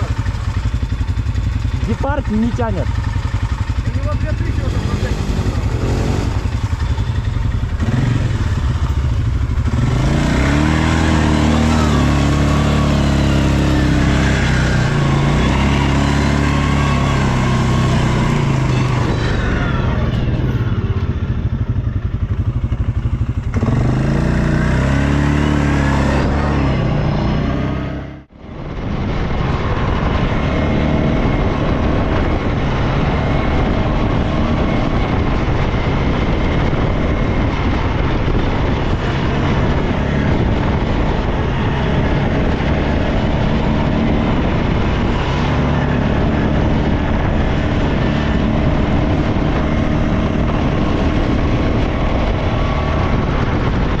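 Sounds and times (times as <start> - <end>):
atv engines revving: 0.0 - 54.0.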